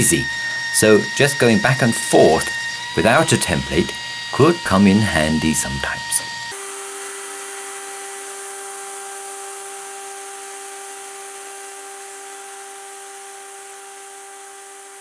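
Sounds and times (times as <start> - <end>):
router motor whining: 0.0 - 15.0.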